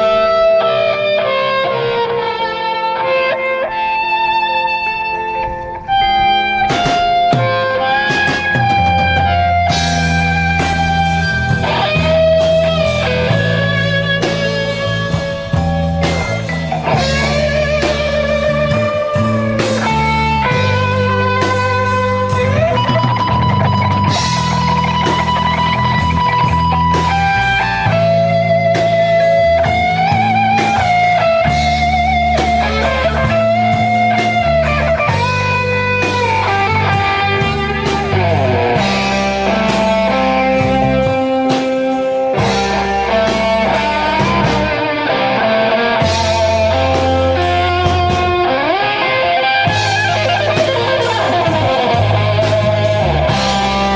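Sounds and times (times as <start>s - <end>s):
electric guitar held notes: 0.0s - 53.9s
rock band playing live: 0.0s - 53.9s.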